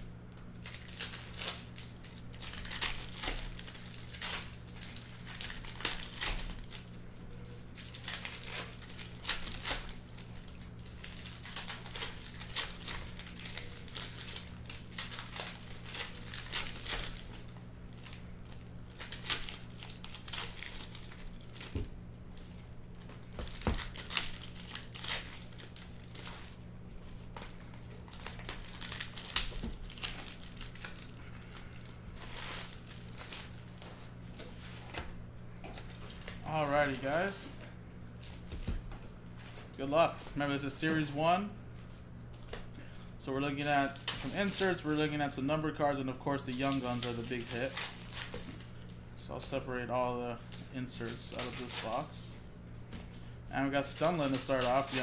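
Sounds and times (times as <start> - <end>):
steady low hum: 0.0 - 55.0
foil packs tearing and crinkling: 0.5 - 35.1, 35.8 - 39.8, 43.5 - 45.0, 46.4 - 48.7, 50.3 - 52.3, 53.6 - 55.0.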